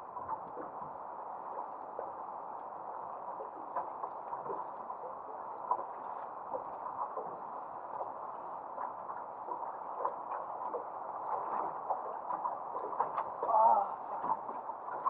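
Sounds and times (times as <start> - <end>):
water lapping against boat hull: 0.0 - 15.0
small ticks and splashes: 0.1 - 15.0.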